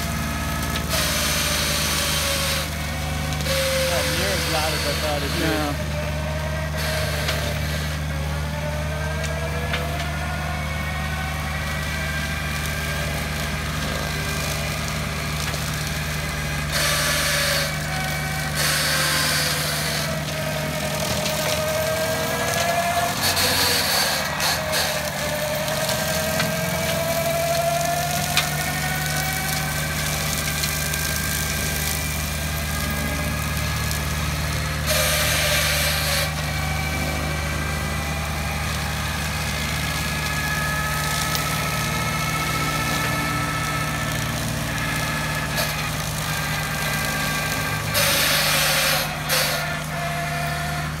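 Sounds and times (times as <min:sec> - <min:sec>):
brush cutter whine: 0:00.0 - 0:51.0
diesel engine running: 0:00.0 - 0:51.0.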